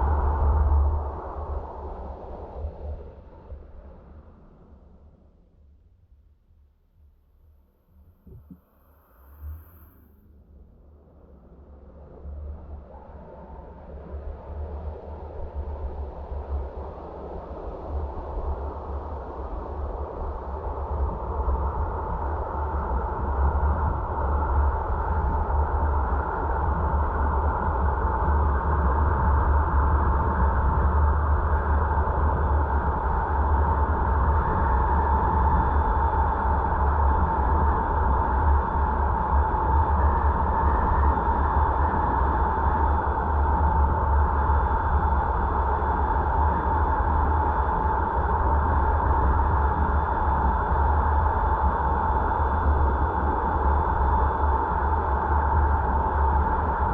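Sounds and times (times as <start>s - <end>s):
constant hum: 6.5s - 56.9s.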